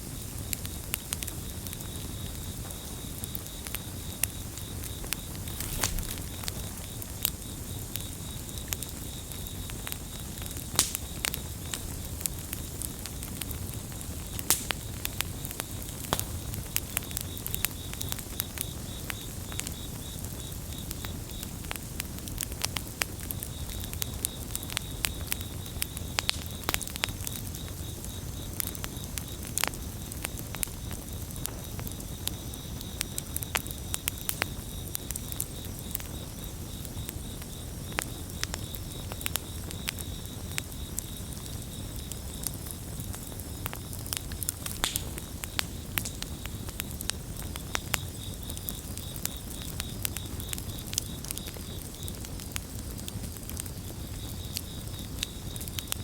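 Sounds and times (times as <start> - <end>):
campfire crackling and popping: 0.0 - 56.0
crickets chirping: 0.1 - 56.0.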